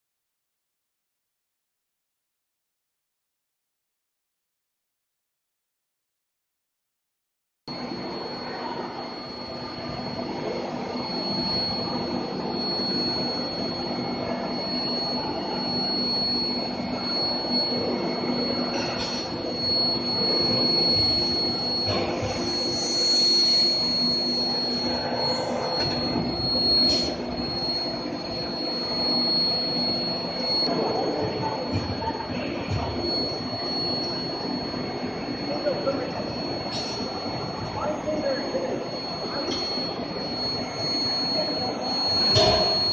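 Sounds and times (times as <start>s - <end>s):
high-pitched whine: 7.7s - 42.9s
low machinery hum: 7.7s - 42.9s.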